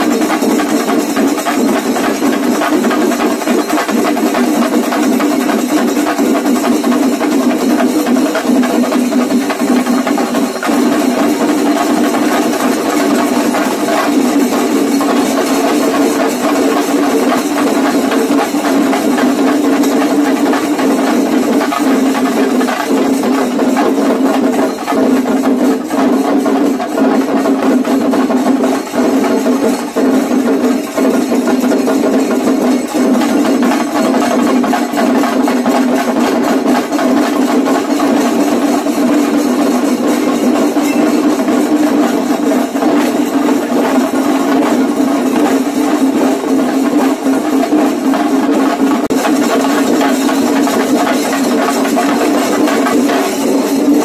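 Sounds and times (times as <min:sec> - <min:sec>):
group drumming: 0:00.0 - 0:54.0.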